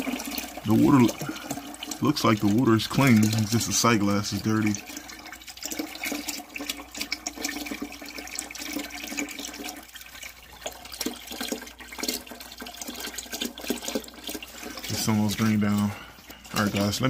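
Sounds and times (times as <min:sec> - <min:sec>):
water running into a bucket: 0:00.0 - 0:17.0.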